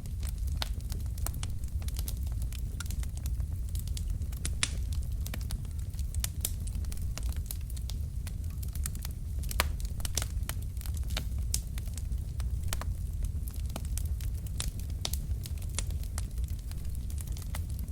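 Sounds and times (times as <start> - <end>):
low rumble of flames: 0.0 - 17.9
wood fire crackling: 0.0 - 17.9.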